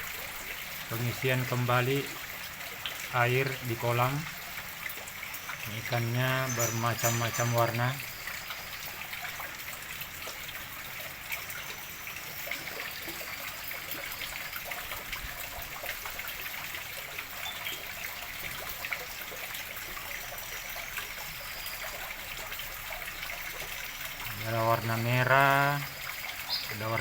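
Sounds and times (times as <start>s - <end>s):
water trickling into pond: 0.0s - 27.0s.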